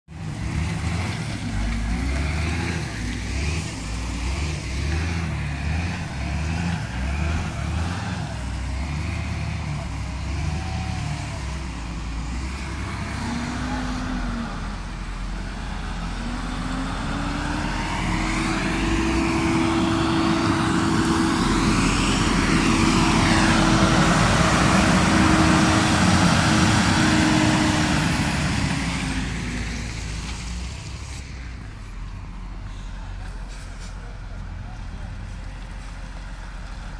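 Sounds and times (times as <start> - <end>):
engine whine: 0.1 - 36.9
heavy diesel engines running: 0.1 - 36.9.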